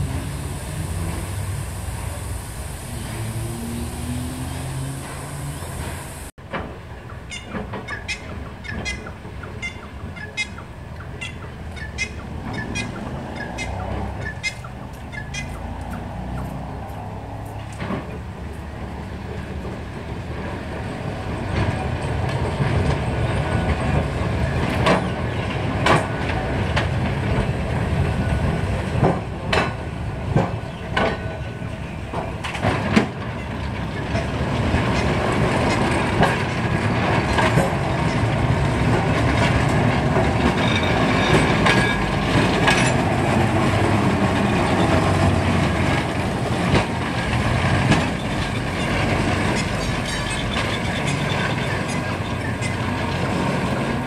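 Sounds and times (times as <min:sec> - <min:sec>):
tram wheels rolling on track: 0:00.0 - 0:54.0
wheels clanking over rail joints: 0:00.0 - 0:54.0.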